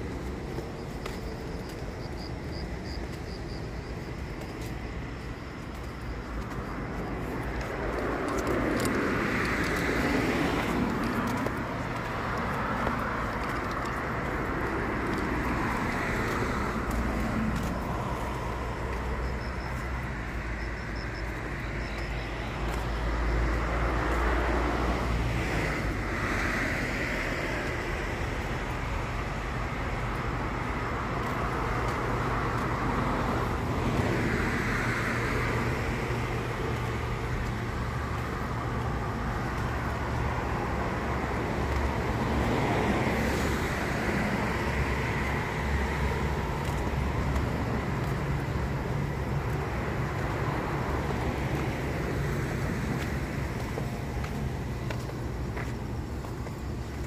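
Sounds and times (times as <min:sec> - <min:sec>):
cars passing on wet road: 0:00.0 - 0:57.0.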